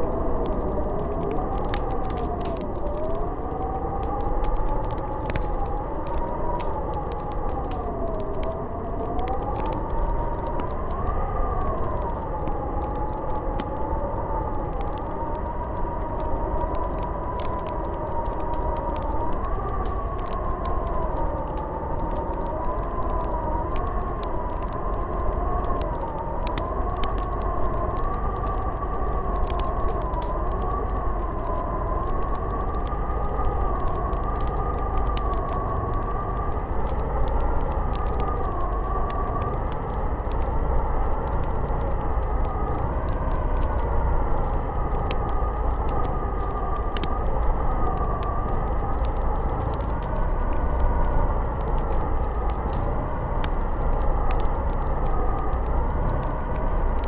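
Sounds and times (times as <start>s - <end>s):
wind howling: 0.0s - 57.0s.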